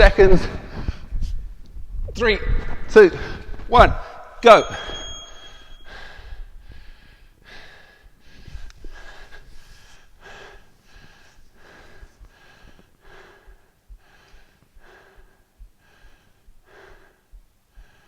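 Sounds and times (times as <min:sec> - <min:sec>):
person breathing hard: 0:00.5 - 0:01.5, 0:03.2 - 0:18.0.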